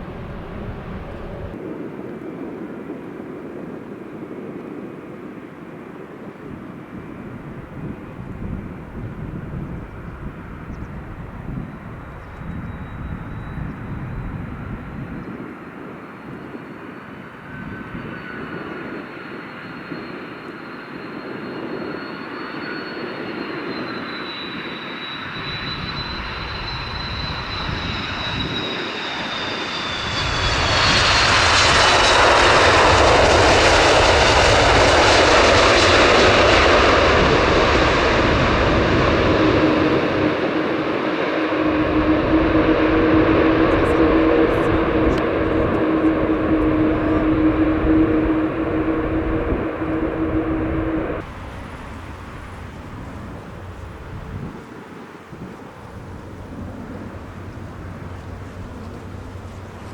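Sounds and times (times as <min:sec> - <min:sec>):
jet engine fan whine: 0:00.0 - 0:59.9
jet engine roar: 0:00.0 - 0:59.9.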